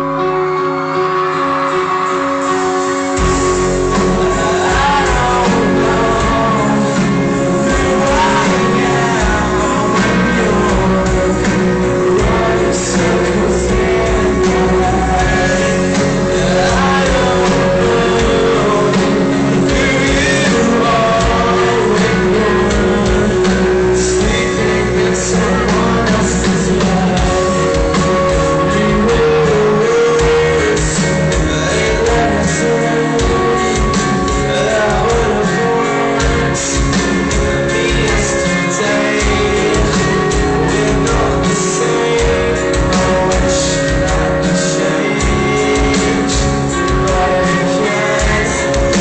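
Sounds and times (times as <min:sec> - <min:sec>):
rock song with singing: 0:00.0 - 0:49.0.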